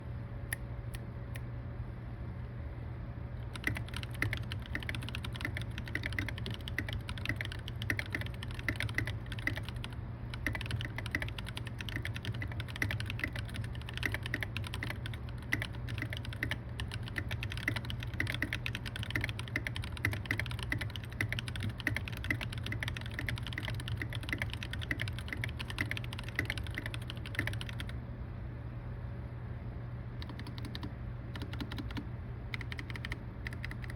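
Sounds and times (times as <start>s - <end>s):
mechanical keyboard typing: 3.5s - 28.0s, 30.2s - 33.9s.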